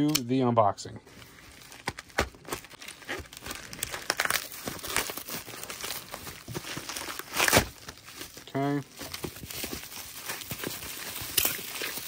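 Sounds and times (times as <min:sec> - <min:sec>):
plastic mailer crinkling and tearing: 0:01.1 - 0:12.0.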